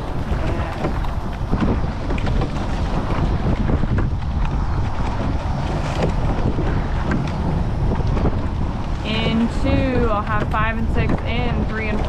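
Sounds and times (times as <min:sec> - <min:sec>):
oars clicking in oarlocks: 0:00.0 - 0:12.0
wind rumbling on microphone: 0:00.0 - 0:12.0.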